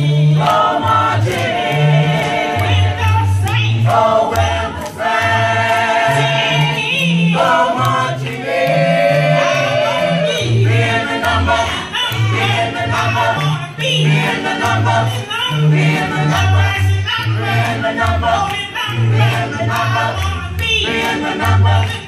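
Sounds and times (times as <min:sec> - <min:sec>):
group singing a cappella gospel: 0:00.0 - 0:22.0.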